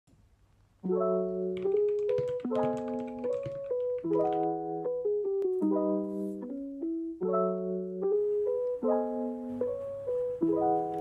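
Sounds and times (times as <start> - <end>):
soft piano melody: 0.8 - 11.0.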